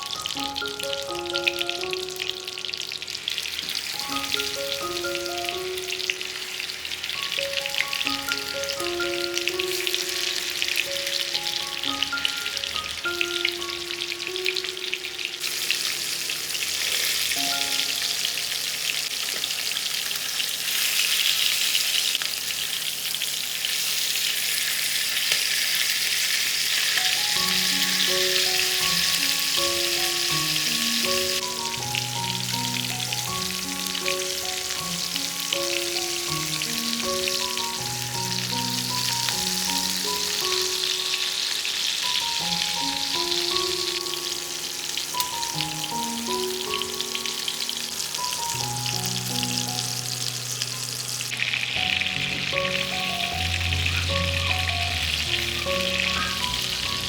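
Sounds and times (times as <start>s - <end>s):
soft background melody: 0.0s - 22.2s, 23.7s - 57.0s
food sizzling in a pan: 0.0s - 57.0s.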